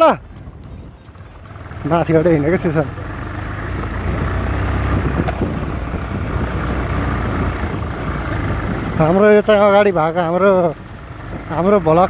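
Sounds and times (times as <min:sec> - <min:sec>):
low engine rumble: 0:00.0 - 0:12.0
road noise hiss: 0:00.0 - 0:12.0.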